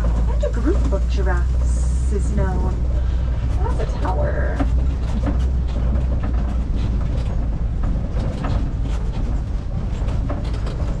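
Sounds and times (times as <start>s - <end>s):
truck engine and road rumble: 0.0s - 11.0s
vehicle body rattling: 0.0s - 11.0s.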